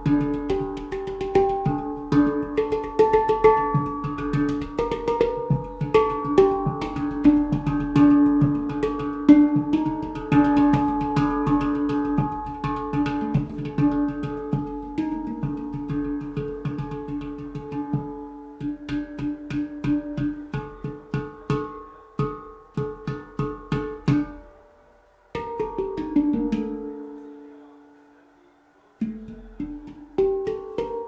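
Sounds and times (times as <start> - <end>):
handpan ringing metallic notes: 0.0 - 24.7, 25.3 - 27.6, 29.0 - 31.0.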